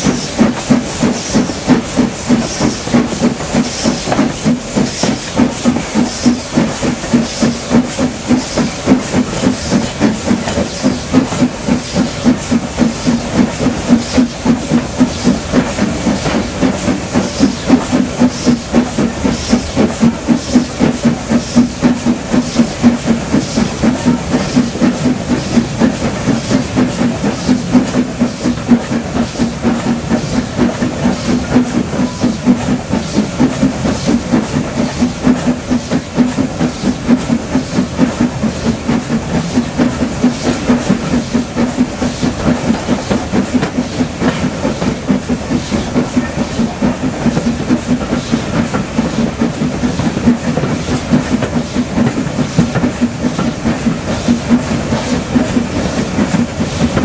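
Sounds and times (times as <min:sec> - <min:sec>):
steam hissing: 0:00.0 - 0:57.0
steam locomotive pulsing beat: 0:00.0 - 0:57.0.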